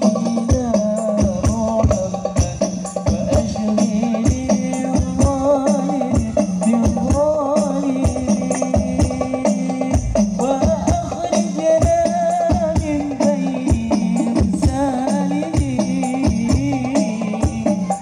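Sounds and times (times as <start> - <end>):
frame drum beat: 0.0 - 18.0.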